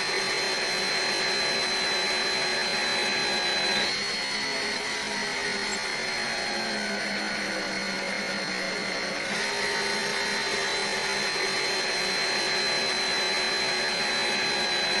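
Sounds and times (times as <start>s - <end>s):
electric drill running: 0.0s - 15.0s.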